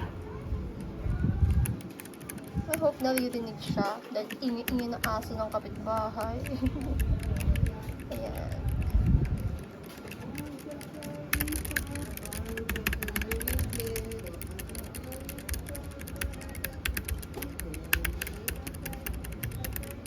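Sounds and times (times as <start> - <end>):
fast typing on keyboard: 1.1 - 20.0.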